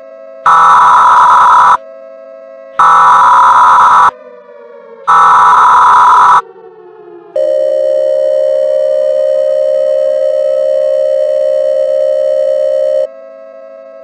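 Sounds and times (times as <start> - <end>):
electronic siren tone: 0.0 - 14.0.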